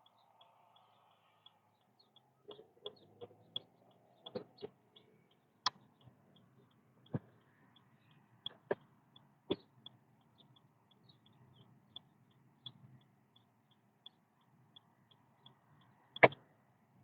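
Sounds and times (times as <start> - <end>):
faint fast regular ticking: 0.0 - 17.0
faint road noise: 0.0 - 17.0.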